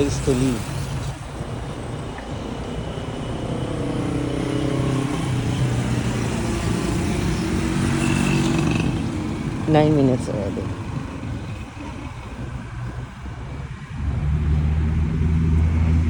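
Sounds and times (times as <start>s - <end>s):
tyre and traffic noise: 0.0s - 16.0s
vehicle engine passing: 0.0s - 16.0s.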